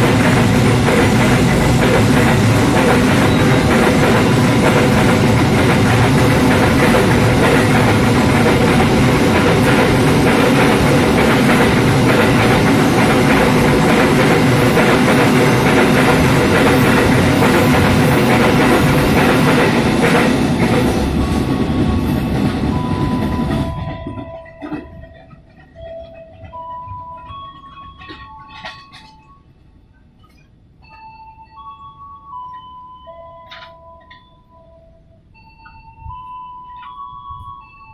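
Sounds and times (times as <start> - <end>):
train rail rumble: 0.0 - 30.4.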